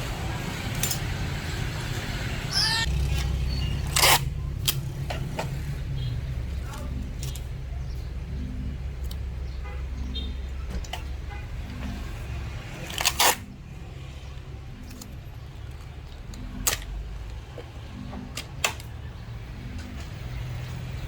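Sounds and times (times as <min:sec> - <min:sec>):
low steady rumble: 0:00.0 - 0:18.4.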